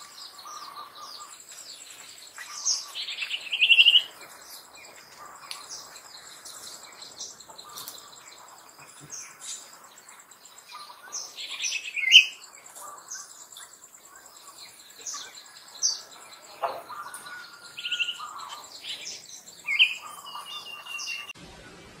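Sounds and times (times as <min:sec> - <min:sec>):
insect trill: 0:00.0 - 0:21.4
birds chirping: 0:00.0 - 0:22.0.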